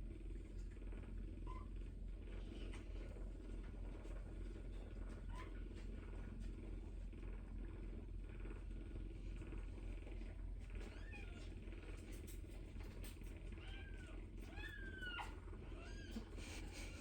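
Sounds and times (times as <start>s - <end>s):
low purr: 0.0s - 17.0s.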